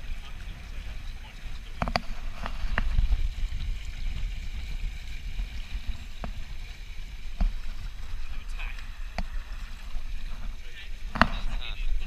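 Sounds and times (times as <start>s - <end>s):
water rushing past hulls: 0.0s - 12.0s
wind on microphone: 0.0s - 12.0s.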